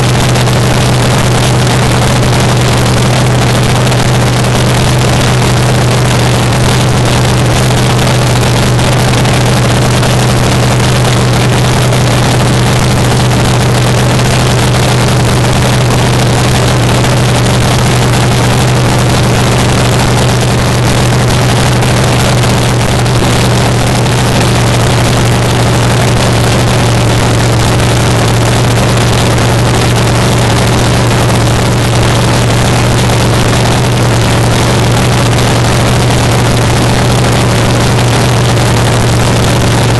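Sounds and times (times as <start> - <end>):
drag car engine idling: 0.0 - 39.9.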